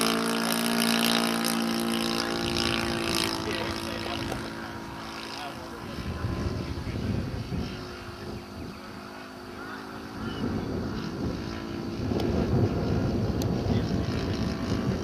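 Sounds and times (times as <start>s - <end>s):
model aircraft engine droning: 0.0s - 15.0s
wind noise on microphone: 0.0s - 15.0s.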